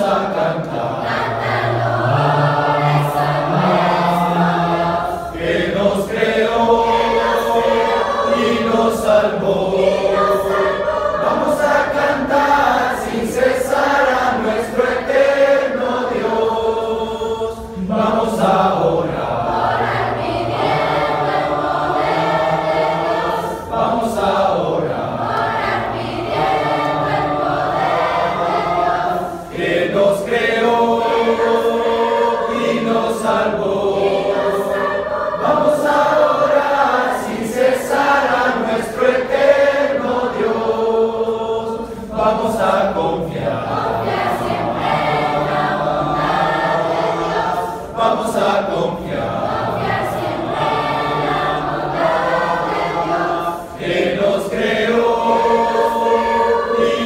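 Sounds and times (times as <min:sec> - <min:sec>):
congregation singing a hymn a cappella: 0:00.0 - 0:57.0.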